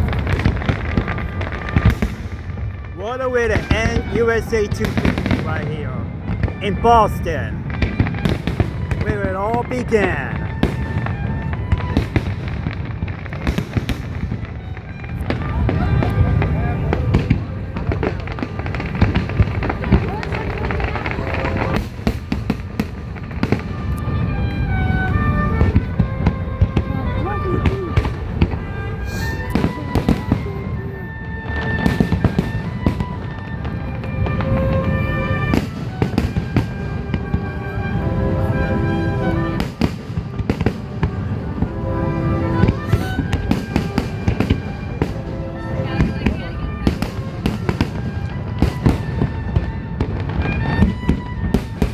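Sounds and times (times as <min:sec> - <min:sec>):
fireworks bangs and crackles: 0:00.0 - 0:51.9
music with held notes: 0:00.0 - 0:51.9.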